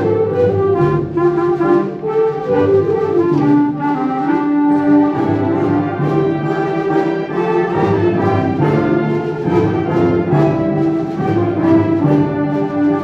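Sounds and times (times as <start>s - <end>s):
wind band playing: 0.0s - 13.0s.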